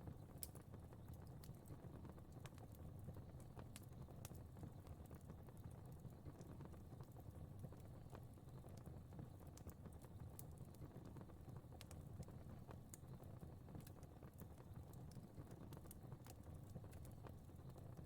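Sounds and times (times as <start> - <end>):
fire burning in fireplace: 0.0 - 18.0.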